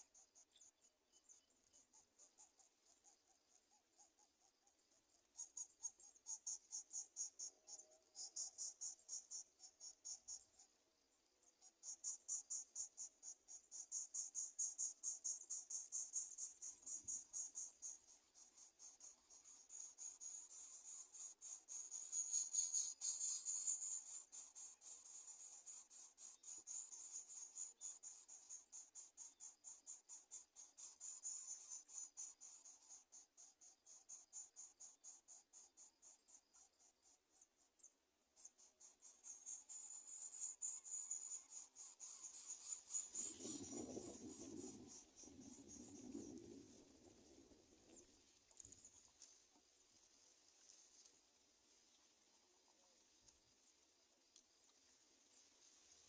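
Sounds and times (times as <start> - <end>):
insect chirping: 0.0 - 56.0.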